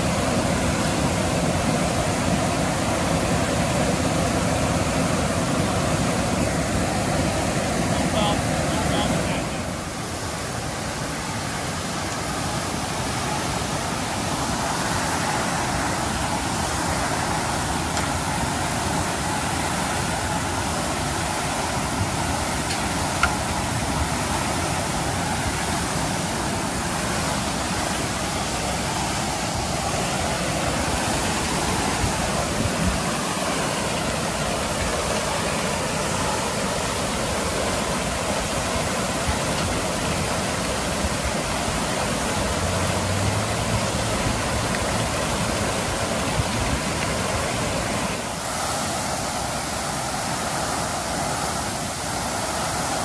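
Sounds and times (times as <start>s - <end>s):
water gushing from fire hydrant: 0.0s - 53.0s.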